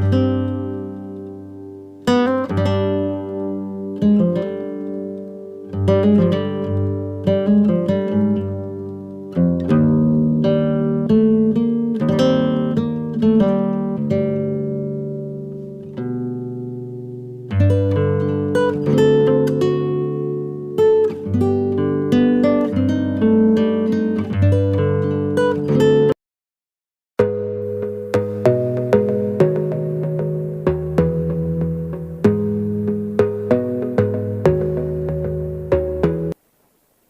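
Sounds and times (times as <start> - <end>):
plucked acoustic guitar: 0.0 - 26.2, 27.2 - 36.4.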